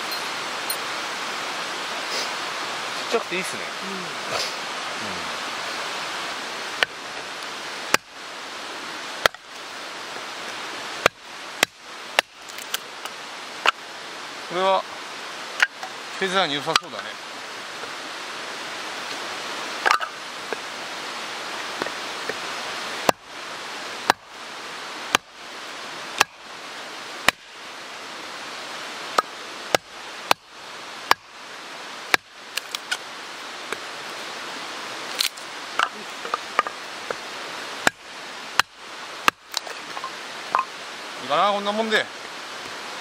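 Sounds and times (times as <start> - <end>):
mountain stream rushing: 0.0 - 43.0.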